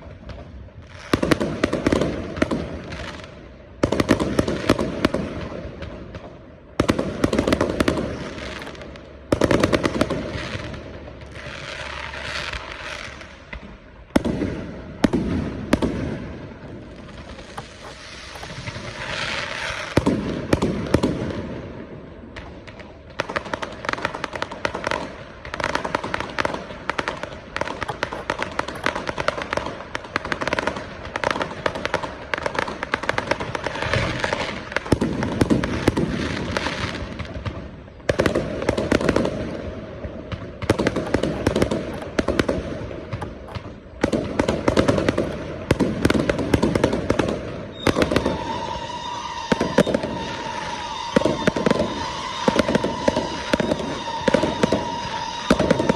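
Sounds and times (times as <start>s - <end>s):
fireworks cracks and bangs: 0.0s - 55.9s.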